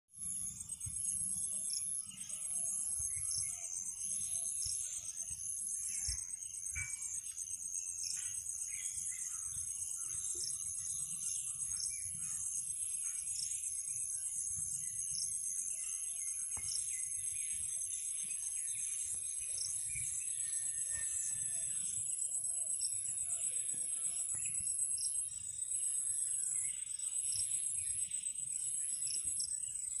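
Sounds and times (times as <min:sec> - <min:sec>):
bird calls: 0:00.2 - 0:30.0
insects trilling: 0:00.2 - 0:30.0.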